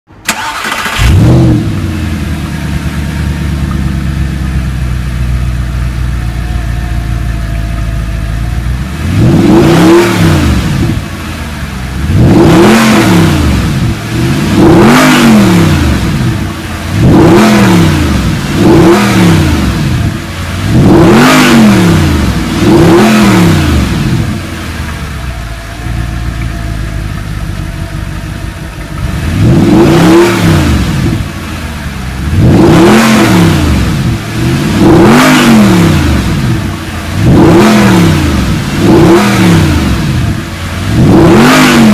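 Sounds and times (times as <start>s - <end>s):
car engine starting and idling: 0.1s - 41.9s
car engine revving: 0.2s - 41.9s.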